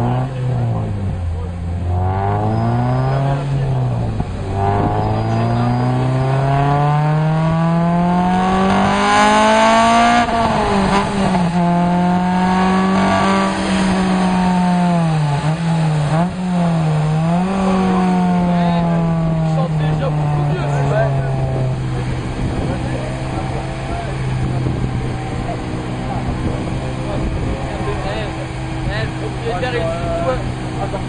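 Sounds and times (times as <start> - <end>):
car engine revving under load: 0.0 - 31.0.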